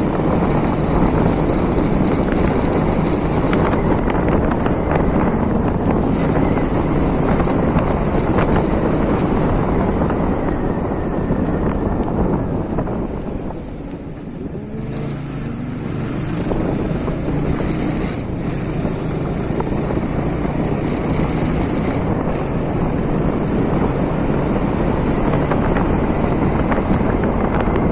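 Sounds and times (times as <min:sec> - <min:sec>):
moving vehicle rumble: 0:00.0 - 0:27.9.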